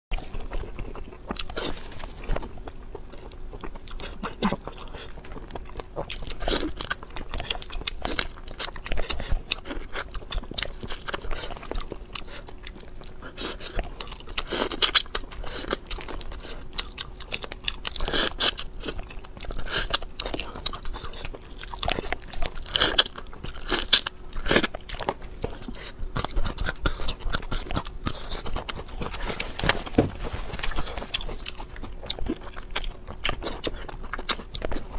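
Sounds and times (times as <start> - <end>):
crunchy bites and wet chewing: 0.1 - 34.9.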